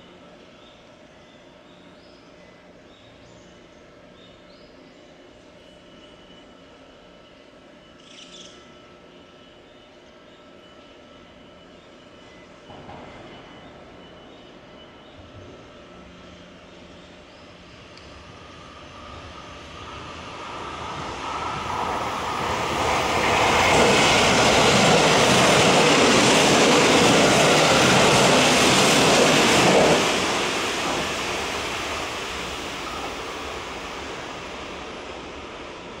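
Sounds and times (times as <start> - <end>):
electric train passing: 5.0 - 36.0.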